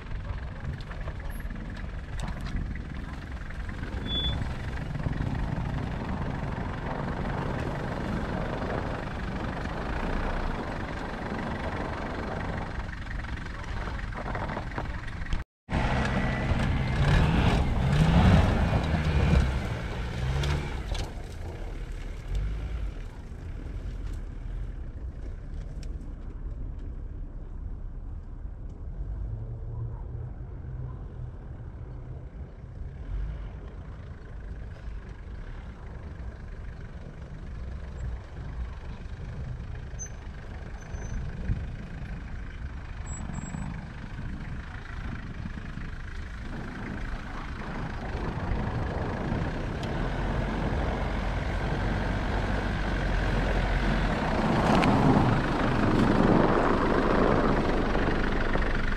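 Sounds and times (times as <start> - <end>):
diesel van engine revving: 0.0 - 24.9, 32.3 - 58.9.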